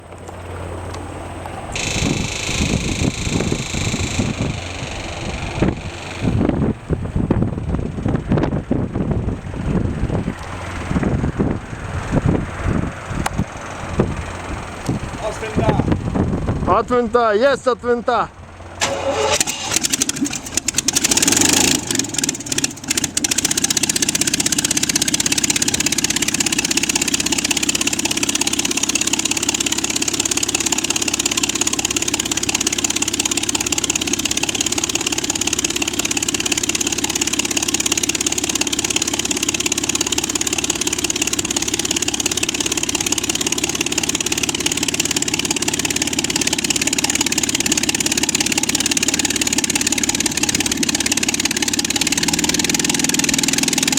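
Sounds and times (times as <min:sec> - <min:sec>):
airplane piston engine idling: 0:00.0 - 0:53.9.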